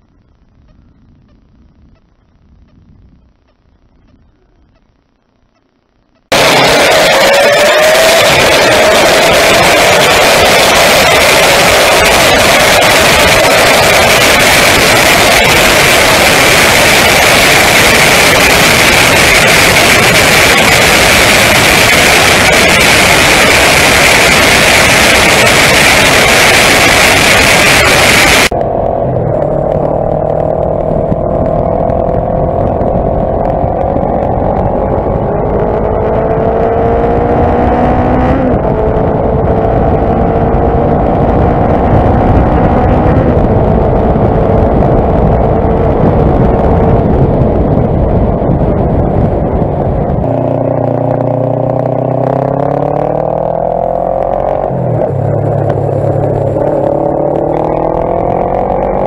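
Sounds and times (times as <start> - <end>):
wind and road noise: 0.0 - 59.0
motorbike engine accelerating: 6.3 - 59.0.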